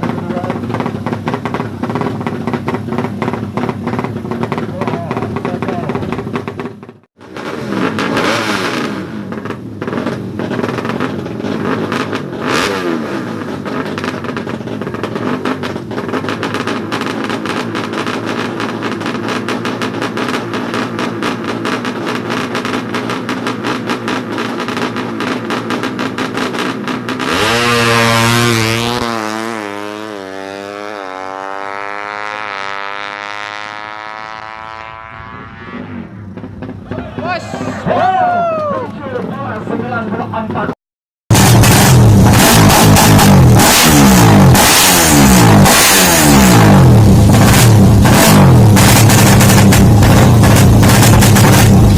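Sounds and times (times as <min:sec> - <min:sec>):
motorcycle engine revving high: 0:00.0 - 0:38.4, 0:41.3 - 0:51.9.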